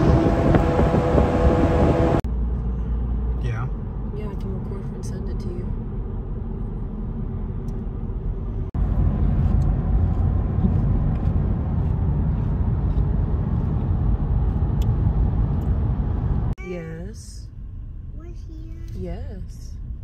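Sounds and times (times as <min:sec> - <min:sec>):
car engine rumble: 0:00.0 - 0:20.0
road noise inside moving car: 0:00.0 - 0:20.0.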